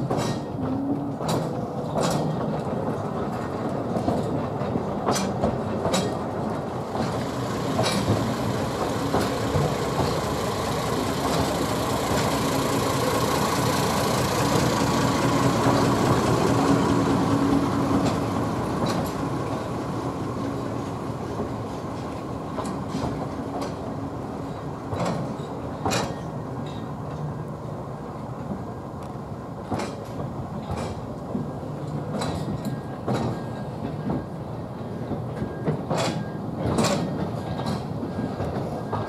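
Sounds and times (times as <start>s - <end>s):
wheels clicking over rails: 0.0s - 27.3s, 28.4s - 39.0s
train rumbling on track: 0.0s - 39.0s.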